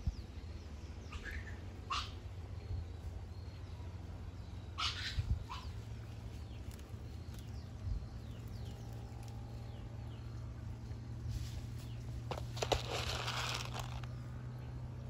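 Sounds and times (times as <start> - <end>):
birds calling: 0.9 - 11.0, 11.8 - 15.0.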